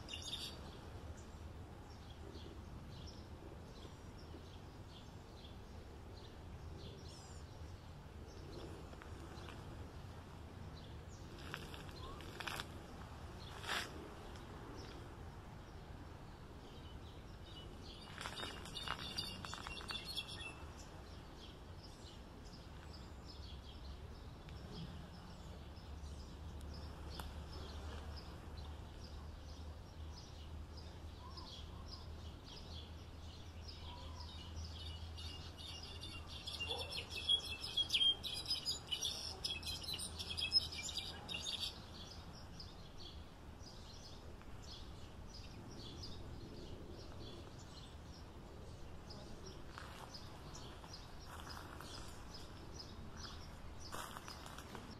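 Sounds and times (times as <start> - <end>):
bird twittering song: 0.0 - 54.9
low background noise: 0.0 - 54.9.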